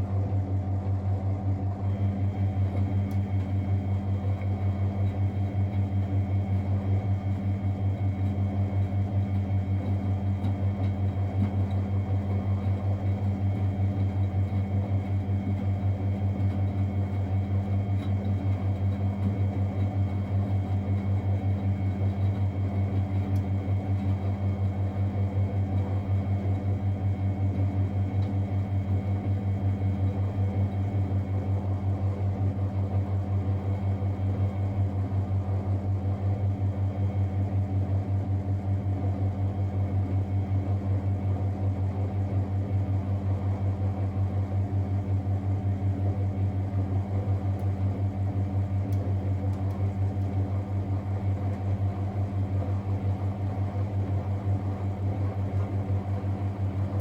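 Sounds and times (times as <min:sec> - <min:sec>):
washing machine pulsing hum: 0:00.0 - 0:57.0.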